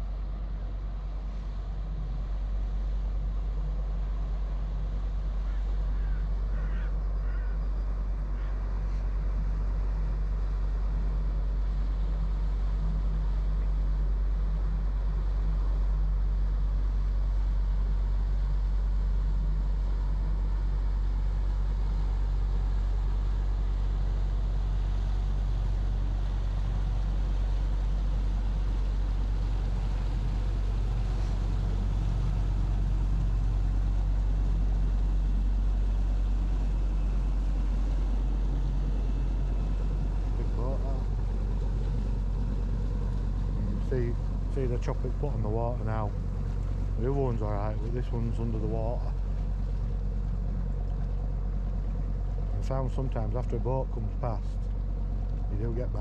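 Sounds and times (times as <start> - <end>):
motor boat engine drone: 0.0 - 56.0.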